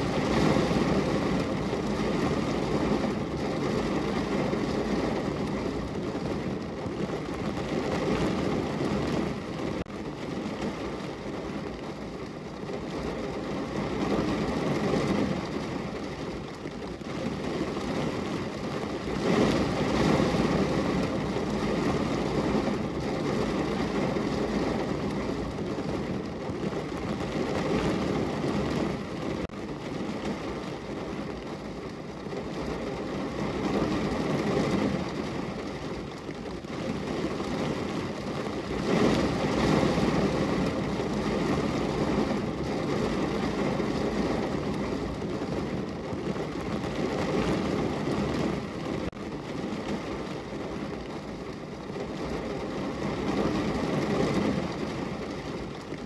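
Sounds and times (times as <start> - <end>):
rain falling against a window: 0.0 - 56.0.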